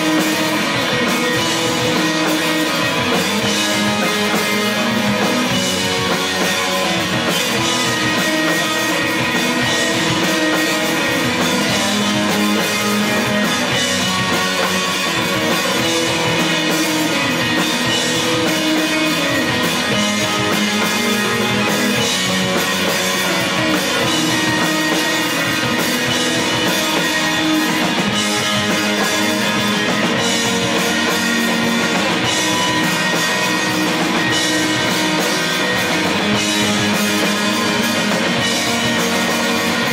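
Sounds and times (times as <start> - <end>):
live rock band playing loudly: 0.0 - 39.9.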